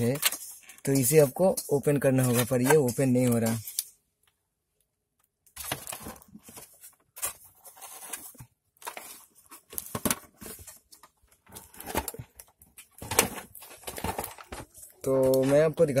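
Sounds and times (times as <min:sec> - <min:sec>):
plastic and metal parts scraping: 0:00.0 - 0:03.9, 0:05.6 - 0:16.0.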